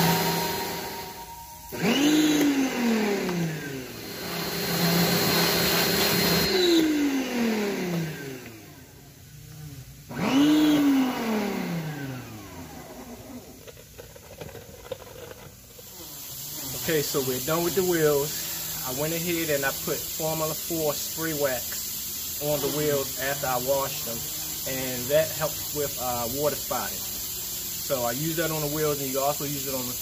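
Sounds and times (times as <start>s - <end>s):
pressure washer motor whining: 0.0s - 30.0s.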